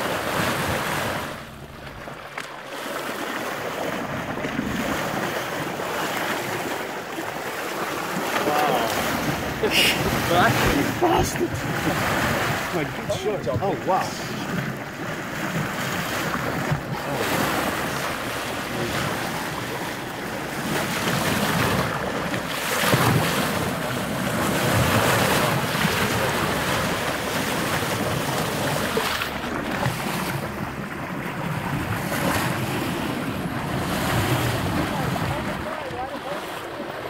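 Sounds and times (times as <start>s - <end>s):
water rushing past boat hull: 0.0s - 37.0s.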